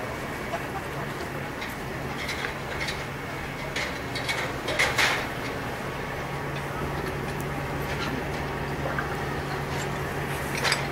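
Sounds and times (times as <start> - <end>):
crane engine running: 0.0 - 10.9.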